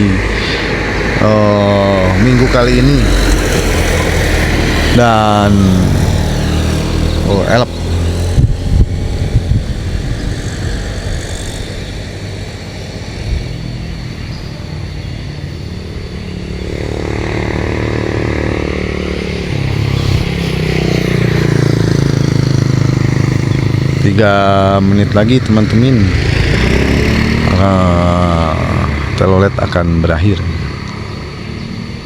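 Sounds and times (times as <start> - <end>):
vehicle engines passing: 0.0 - 32.0.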